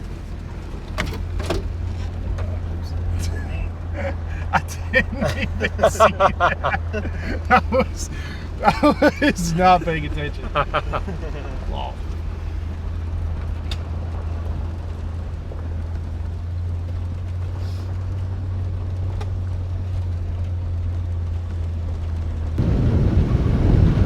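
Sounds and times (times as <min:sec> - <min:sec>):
rough rumbling rush: 0:00.0 - 0:24.0
vehicle driving drone inside cabin: 0:00.0 - 0:24.0.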